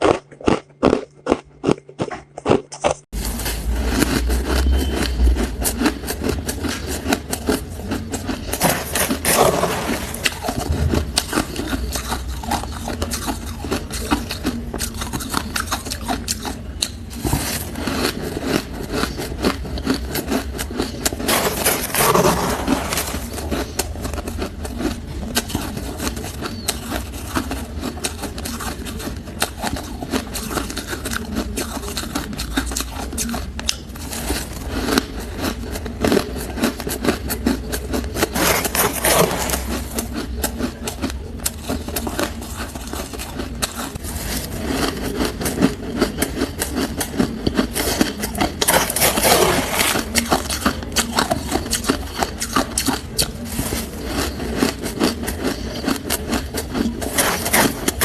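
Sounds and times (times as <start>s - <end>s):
chewing ice cubes: 0.0s - 58.0s.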